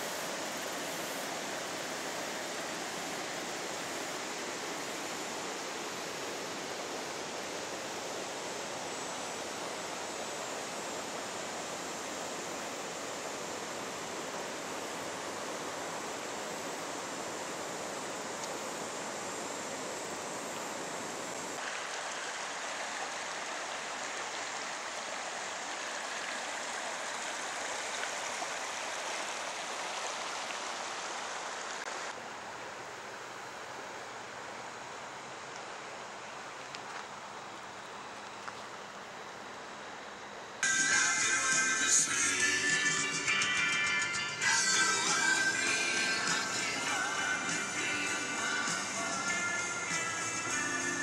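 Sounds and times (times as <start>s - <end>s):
river rushing over rocks: 0.0s - 51.0s.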